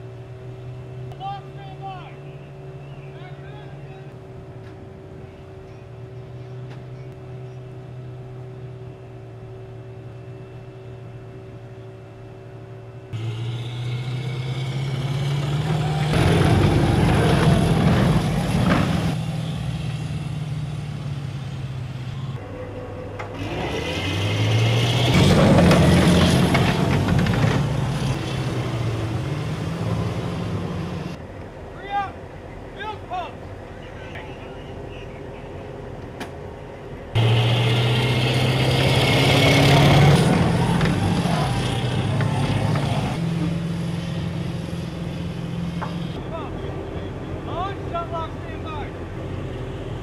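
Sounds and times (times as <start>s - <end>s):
diesel engine idling and revving: 0.0s - 50.0s.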